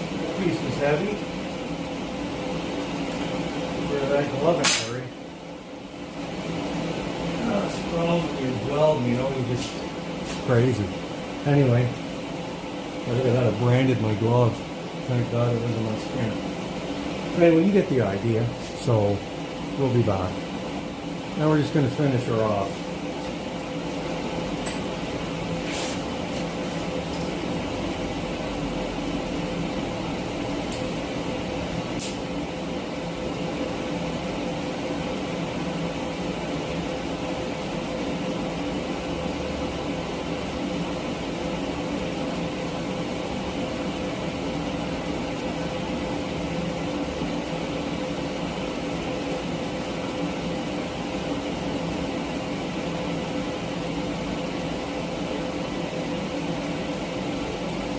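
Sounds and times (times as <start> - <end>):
welder humming and hissing: 0.0 - 57.9.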